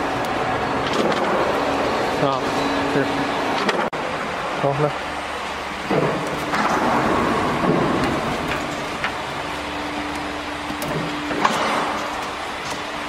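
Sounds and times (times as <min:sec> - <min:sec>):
workshop machine hum: 0:00.0 - 0:13.0.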